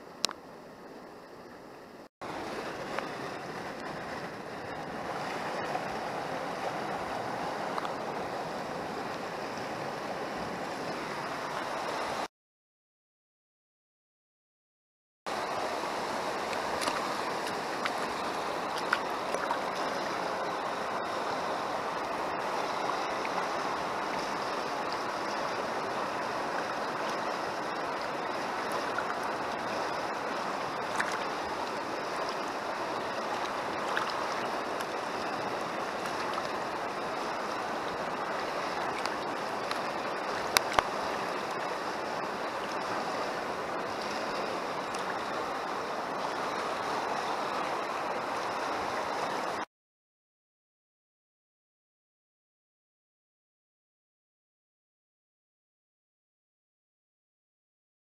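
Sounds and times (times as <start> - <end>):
river water rushing over stones: 0.0 - 12.3, 15.3 - 49.7.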